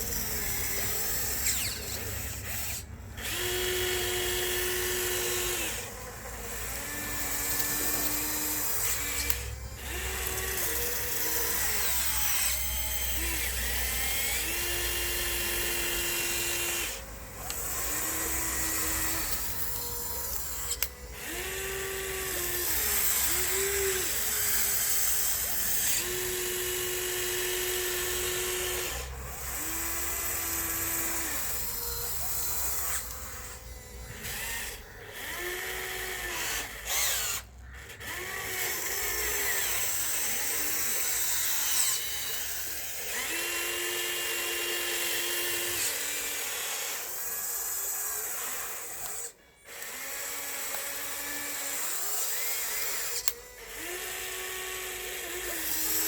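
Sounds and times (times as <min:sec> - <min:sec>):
toy bulldozer motors whining: 0:00.0 - 0:56.0.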